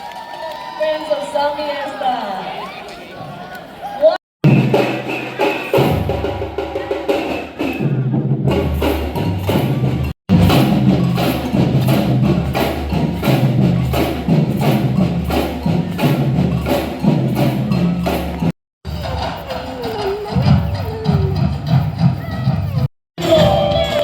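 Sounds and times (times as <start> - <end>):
samba percussion band playing: 4.4 - 24.0.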